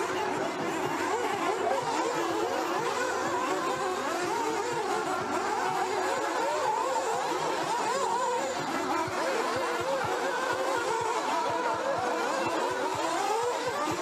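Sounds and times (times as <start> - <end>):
small model engines whining: 0.0 - 14.0.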